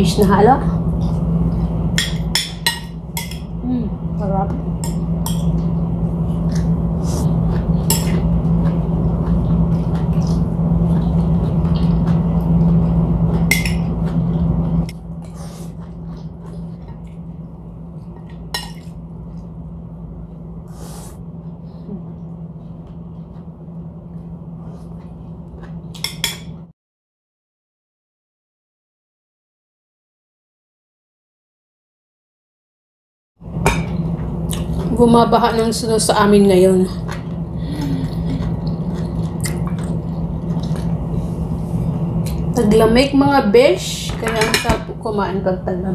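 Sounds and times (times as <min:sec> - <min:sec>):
steady background hum: 0:00.0 - 0:26.7, 0:33.4 - 0:45.9.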